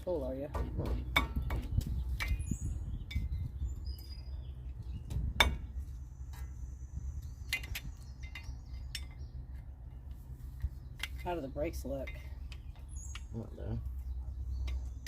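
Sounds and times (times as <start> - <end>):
birds chirping: 0.0 - 15.0
low steady rumble: 0.0 - 15.0.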